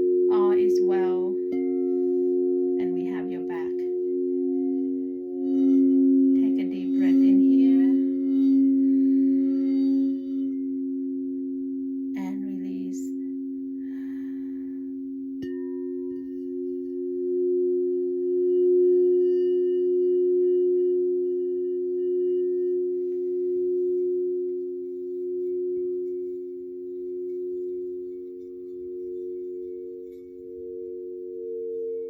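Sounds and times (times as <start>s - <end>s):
singing bowl ringing: 0.0s - 32.0s.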